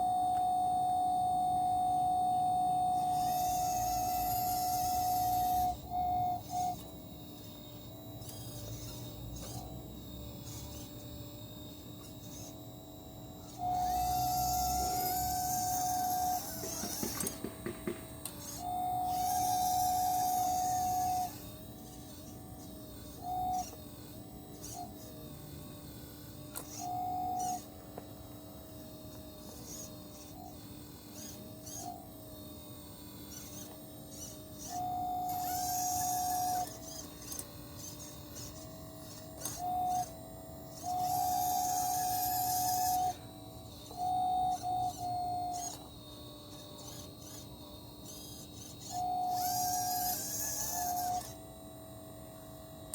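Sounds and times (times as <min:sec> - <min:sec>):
low quiet whir: 0:00.0 - 0:52.9
small electric motors whining: 0:00.0 - 0:52.9
steady hum: 0:00.0 - 0:52.9.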